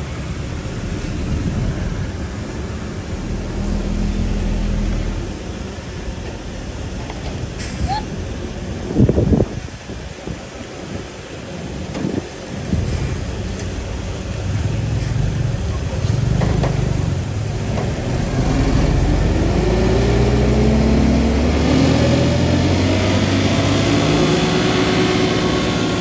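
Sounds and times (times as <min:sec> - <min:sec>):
diesel engine revving: 0:00.0 - 0:09.9, 0:12.4 - 0:26.0.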